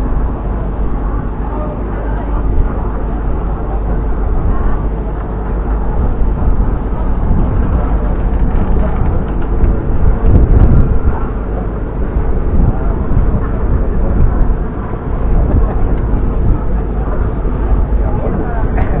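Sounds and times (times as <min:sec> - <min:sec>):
boat engine rumbling: 0:00.0 - 0:19.0
water wash: 0:00.0 - 0:19.0.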